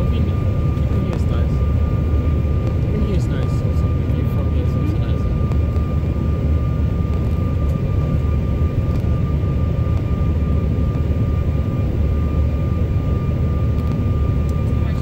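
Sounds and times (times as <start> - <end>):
aircraft cabin engine rumble: 0.0 - 15.0
thin steady whine: 0.0 - 15.0.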